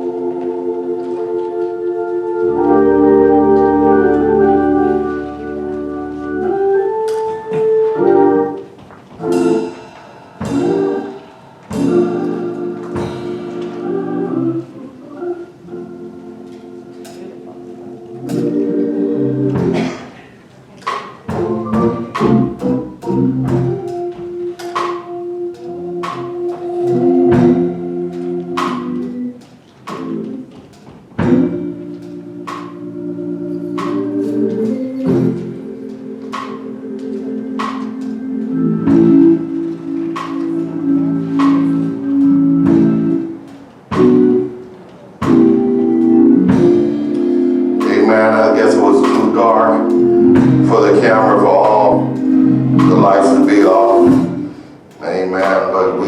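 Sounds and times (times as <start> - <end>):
organ playing slow chords: 0.0 - 20.2, 21.3 - 56.0.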